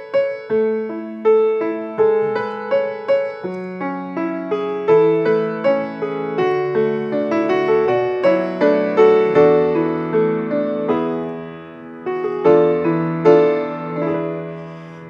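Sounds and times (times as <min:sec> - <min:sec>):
piano playing a hymn: 0:00.0 - 0:15.0.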